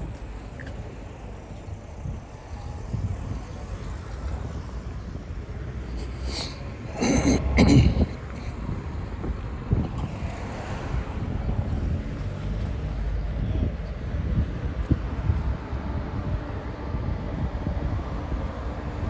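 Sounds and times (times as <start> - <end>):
traffic rumble: 0.0 - 19.0
wind buffeting microphone: 0.0 - 19.0.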